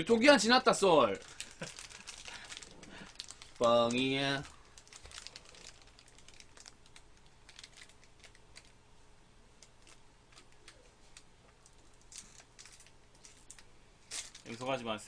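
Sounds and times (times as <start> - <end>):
low room hum: 0.0 - 15.0
plastic wrapper crinkling: 0.8 - 8.8, 9.6 - 15.0.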